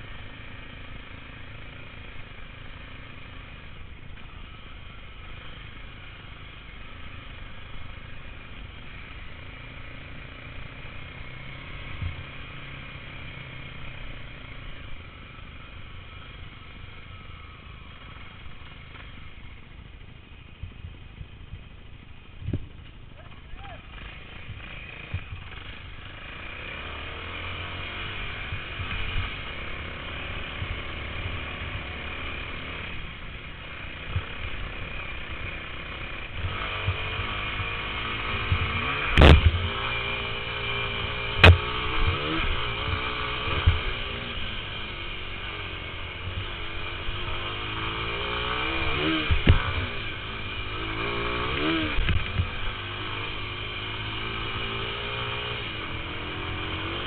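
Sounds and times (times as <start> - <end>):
motocross bike engine revving: 0.0 - 19.9, 23.2 - 57.0.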